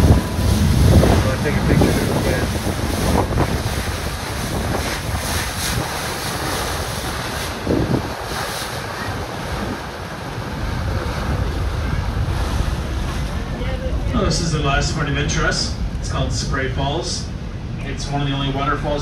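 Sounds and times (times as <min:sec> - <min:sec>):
wind buffeting microphone: 0:00.0 - 0:17.8
water rushing around boat: 0:00.0 - 0:19.0.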